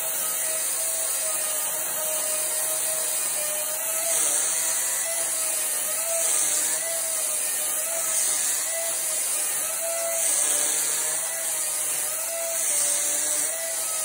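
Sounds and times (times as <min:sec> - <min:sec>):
electric chainsaw cutting wood: 0:00.0 - 0:14.0.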